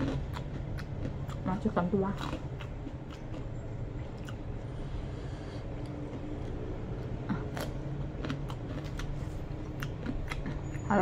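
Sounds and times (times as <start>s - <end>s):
person chewing food: 0.0s - 10.9s
steady low hum: 0.0s - 11.0s.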